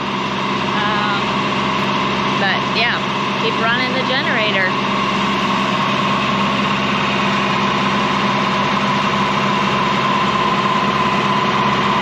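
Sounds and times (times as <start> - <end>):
generator engine running: 0.0 - 12.0
high whine: 0.0 - 12.0.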